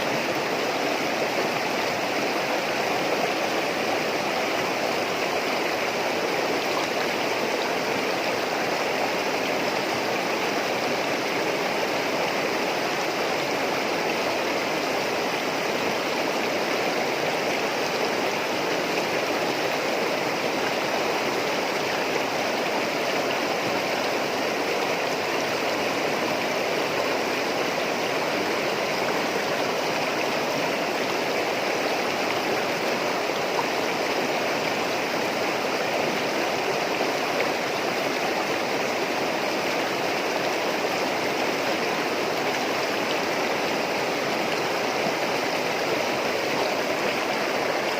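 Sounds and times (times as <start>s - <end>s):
running water babbling: 0.0s - 47.9s.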